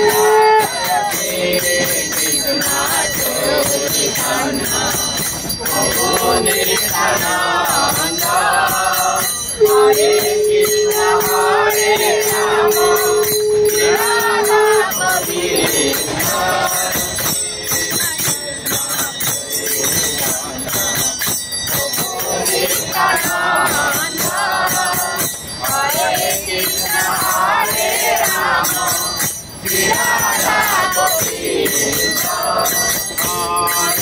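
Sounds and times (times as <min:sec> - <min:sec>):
bell ringing rapidly: 0:00.0 - 0:34.0
person singing devotional melody: 0:00.0 - 0:34.0.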